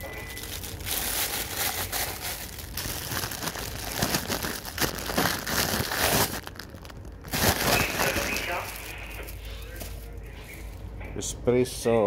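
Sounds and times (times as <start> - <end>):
plastic sleeve crinkling: 0.0 - 10.8.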